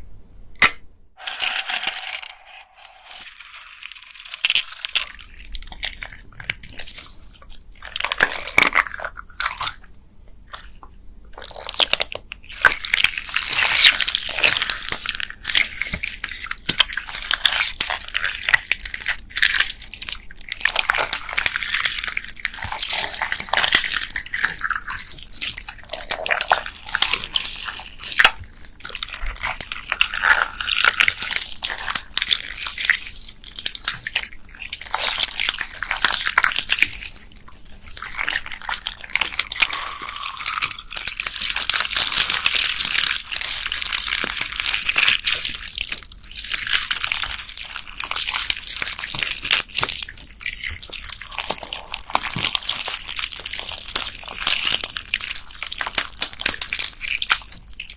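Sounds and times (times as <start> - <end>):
slime with beads crackling and squishing: 1.2 - 57.9.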